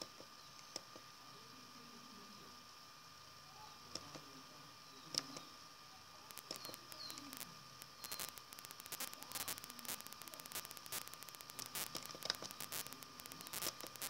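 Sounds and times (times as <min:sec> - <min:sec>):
faint high-pitched hum: 0:00.0 - 0:14.0
steady hiss: 0:00.0 - 0:14.0.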